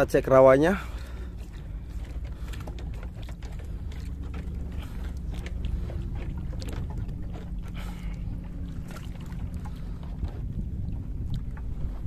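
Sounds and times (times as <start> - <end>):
low rumble of boat: 0.0 - 12.0
line and gear knocking on hull: 0.9 - 11.8.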